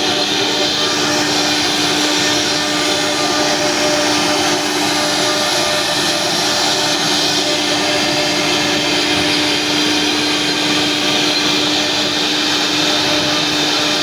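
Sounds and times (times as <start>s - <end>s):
bit cutting wood: 0.0s - 14.0s
router spindle whine: 0.0s - 14.0s.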